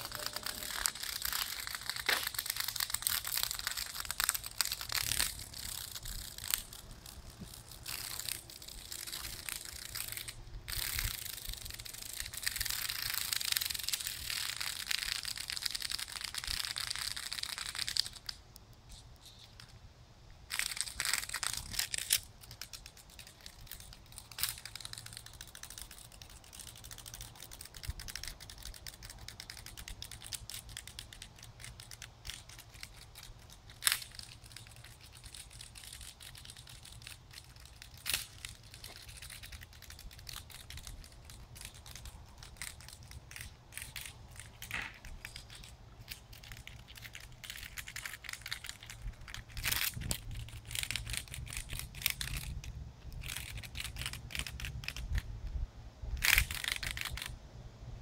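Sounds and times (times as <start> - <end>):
lizard chewing insect crunching: 0.0 - 19.5, 20.5 - 55.2.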